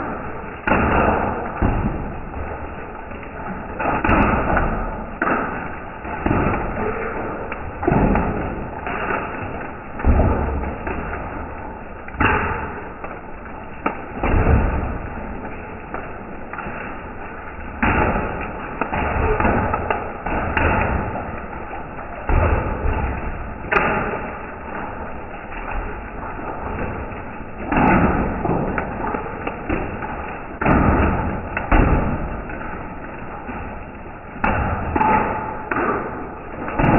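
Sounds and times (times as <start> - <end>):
slowed hail and rain rush: 0.0 - 36.9.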